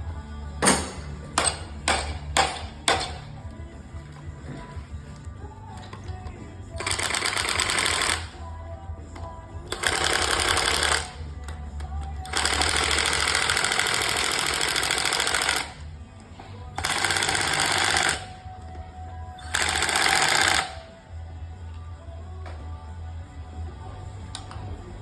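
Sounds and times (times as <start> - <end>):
faint radio music: 0.0 - 25.0
power drill driving fasteners: 0.7 - 21.0.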